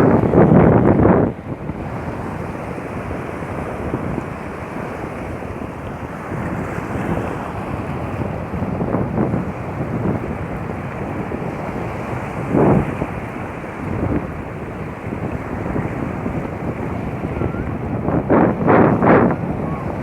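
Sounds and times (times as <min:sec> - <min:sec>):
sea waves washing on shore: 0:00.0 - 0:20.0
wind buffeting microphone: 0:00.0 - 0:20.0.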